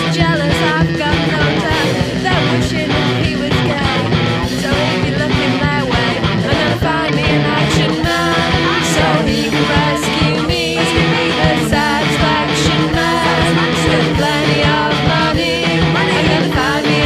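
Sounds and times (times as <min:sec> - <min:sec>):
punk rock music: 0:00.0 - 0:17.0.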